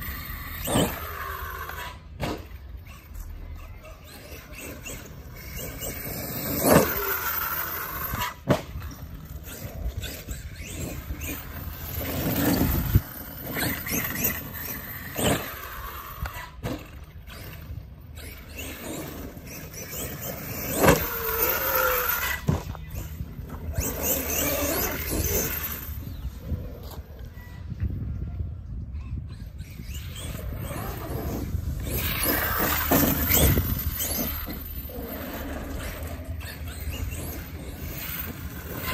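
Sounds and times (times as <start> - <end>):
electric motor whining: 4.1 - 27.7, 29.6 - 38.9.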